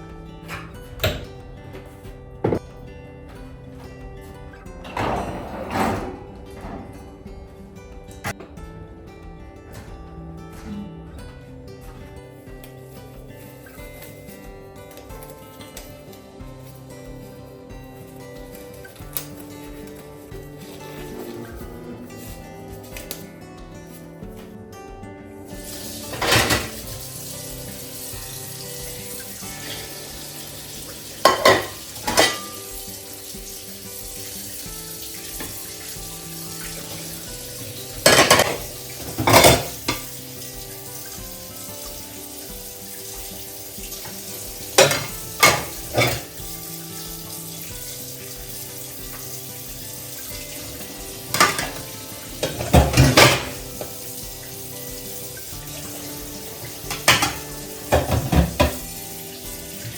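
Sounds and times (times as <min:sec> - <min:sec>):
dishes and utensils clattering: 0:00.0 - 0:16.9, 0:18.0 - 0:24.6, 0:25.3 - 0:59.9
soft background music: 0:00.0 - 0:59.9
steady hiss: 0:06.4 - 0:59.9.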